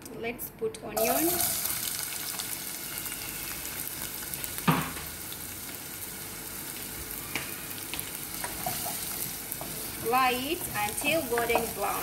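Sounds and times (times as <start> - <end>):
onions sizzling in oil: 1.0 - 12.0.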